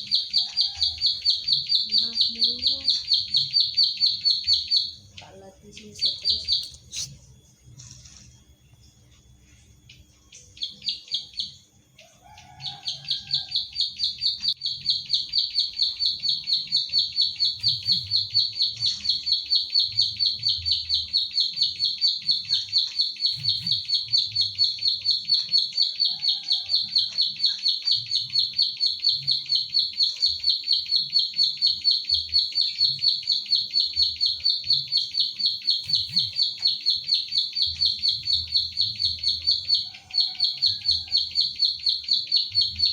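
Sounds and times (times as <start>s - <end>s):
small bird singing rapid notes: 0.0s - 8.2s, 9.9s - 11.8s, 12.4s - 42.9s.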